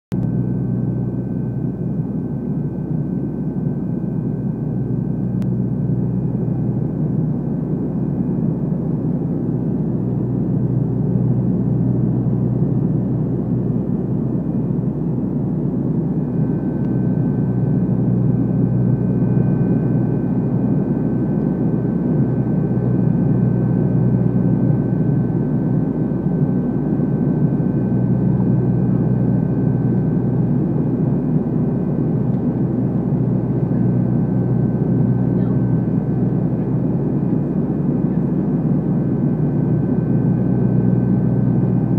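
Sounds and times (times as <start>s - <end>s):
propeller engines droning: 0.1s - 41.9s.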